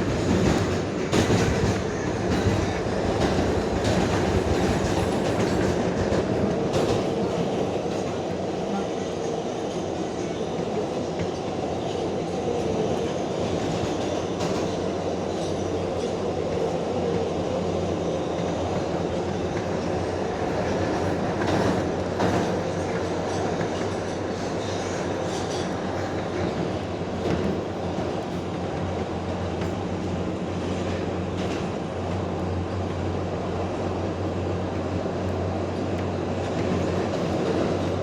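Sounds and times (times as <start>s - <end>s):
subway car rumble: 0.0s - 38.0s.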